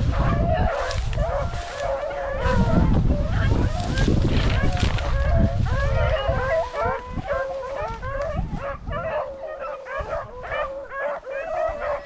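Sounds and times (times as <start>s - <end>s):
hunting dogs yelping and baying: 0.0s - 12.0s.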